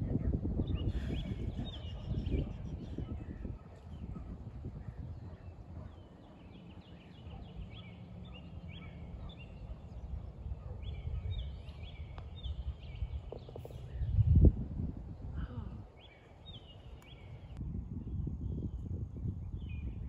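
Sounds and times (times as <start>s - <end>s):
songbird chirping: 0.6s - 17.6s.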